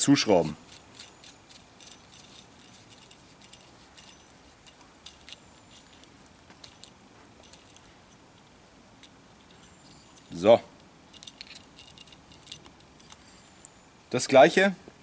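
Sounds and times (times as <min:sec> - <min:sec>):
screwdriver metallic clicks and scrapes: 0:00.5 - 0:10.4, 0:11.2 - 0:13.8.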